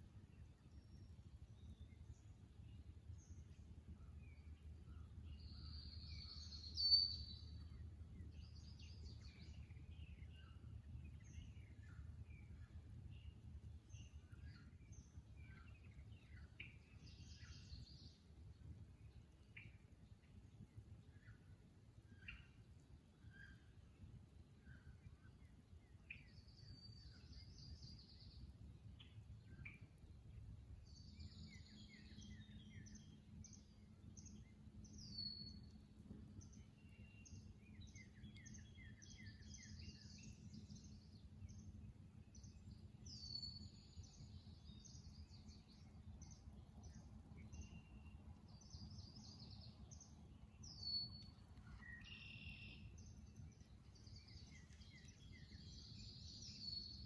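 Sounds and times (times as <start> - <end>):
low steady rumble: 0.0 - 57.0
birdsong: 0.2 - 57.0.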